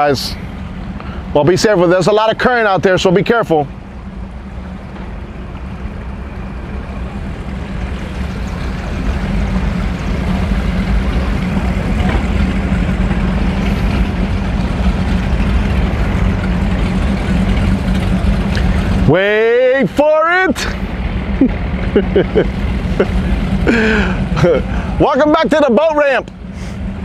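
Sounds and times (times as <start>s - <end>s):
motorboat engine rumbling: 0.0s - 27.0s.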